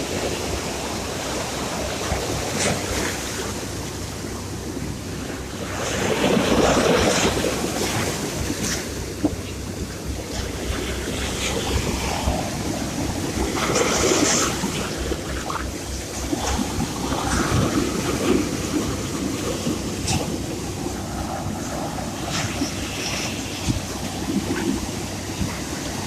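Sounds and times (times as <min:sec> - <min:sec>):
sea surf waves: 0:00.0 - 0:26.0
wind rumble on microphone: 0:00.0 - 0:26.0.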